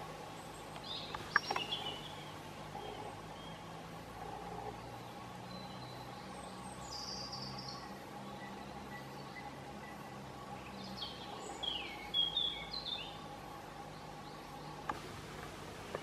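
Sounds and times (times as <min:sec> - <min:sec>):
birds singing: 0:00.0 - 0:16.0
faint steady hum: 0:00.0 - 0:16.0.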